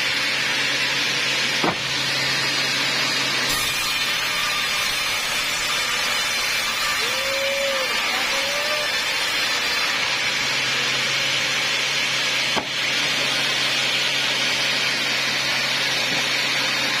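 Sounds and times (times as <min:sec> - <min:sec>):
band saw running: 0:00.0 - 0:17.0.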